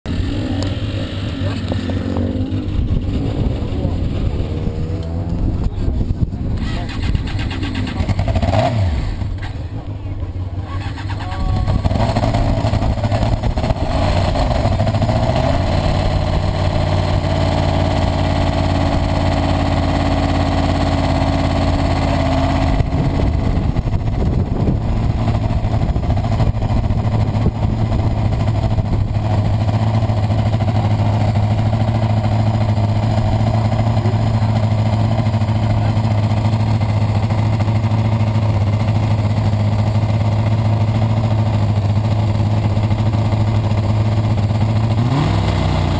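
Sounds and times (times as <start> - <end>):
race car engine running steadily: 0.1 - 45.9.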